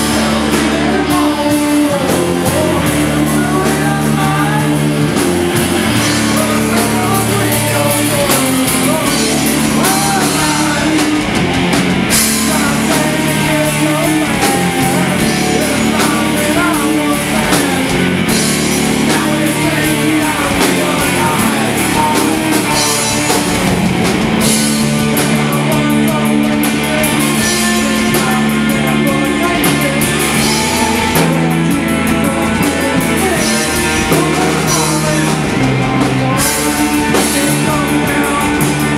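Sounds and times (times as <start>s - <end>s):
drum kit with cymbals: 0.0s - 38.9s
electric guitars: 0.0s - 38.9s
person singing: 0.0s - 38.9s.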